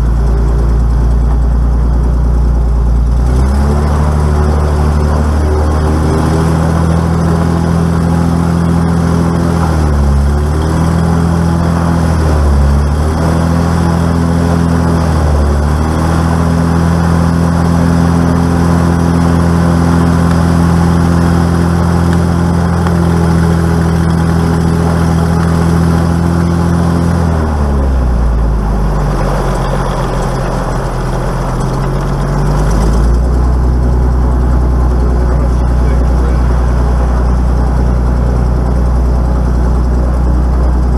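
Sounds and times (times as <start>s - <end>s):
piston aircraft engine: 0.0s - 40.9s.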